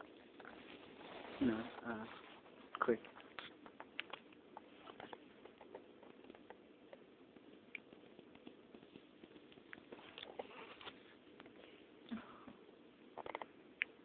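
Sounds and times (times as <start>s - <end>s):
faint low hiss: 0.0s - 14.0s.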